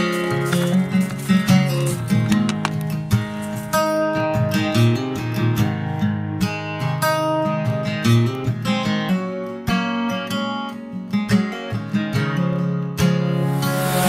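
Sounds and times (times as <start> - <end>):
acoustic guitar strumming and picking: 0.0 - 14.0.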